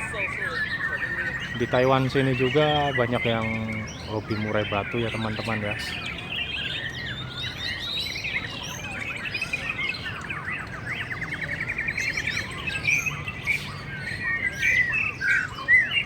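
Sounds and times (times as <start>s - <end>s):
birds singing whistled phrases: 0.0s - 16.0s.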